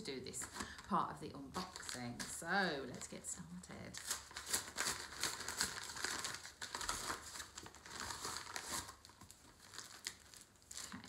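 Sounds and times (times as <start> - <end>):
padded envelope paper crinkling: 0.3 - 11.0.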